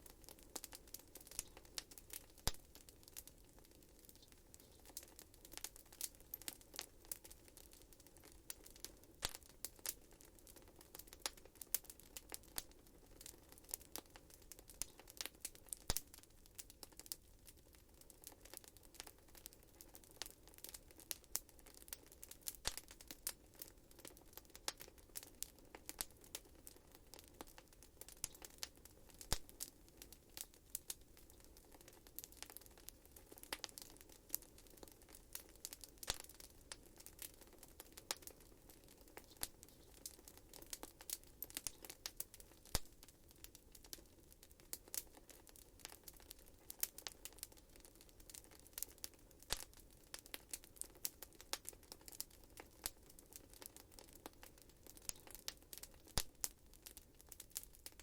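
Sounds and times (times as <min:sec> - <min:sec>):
faint low hiss: 0:00.0 - 0:58.0
wood fire crackling and popping: 0:00.0 - 0:58.0.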